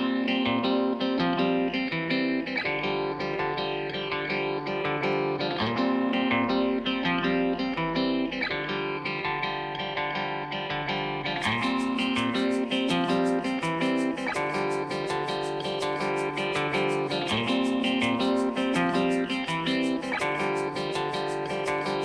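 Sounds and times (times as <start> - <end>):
guitar background music: 0.0 - 22.0.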